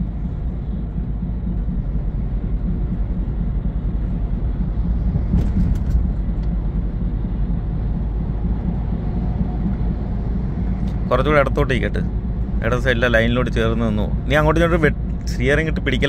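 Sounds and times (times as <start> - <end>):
road noise inside cab: 0.0 - 16.0
truck engine rumbling: 0.0 - 16.0.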